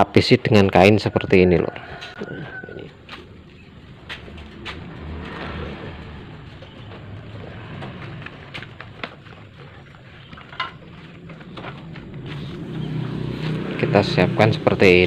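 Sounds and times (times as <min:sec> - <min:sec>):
low steady rumble: 0:02.9 - 0:15.0.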